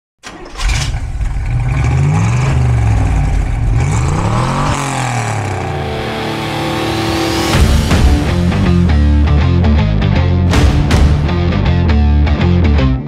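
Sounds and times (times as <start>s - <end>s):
car engine revving: 0.2s - 11.4s.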